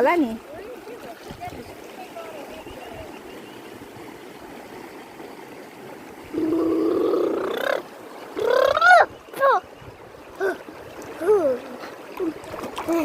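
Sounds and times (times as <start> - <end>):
running river water: 0.0 - 13.0.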